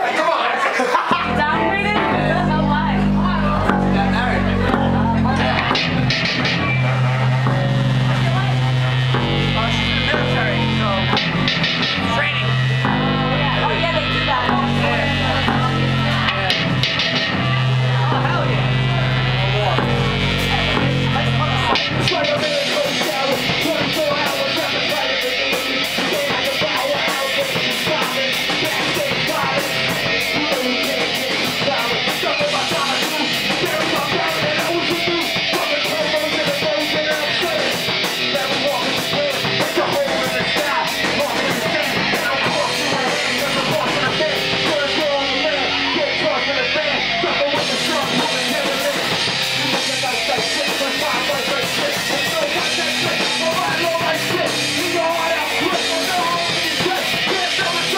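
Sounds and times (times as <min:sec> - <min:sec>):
live rock band playing: 0:00.0 - 0:57.9
electric guitar: 0:01.0 - 0:57.9.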